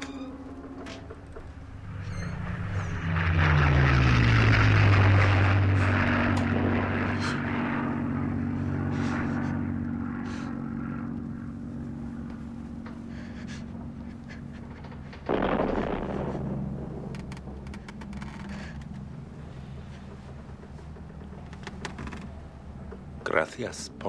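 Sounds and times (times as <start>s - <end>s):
propeller aircraft droning overhead: 0.0s - 24.0s.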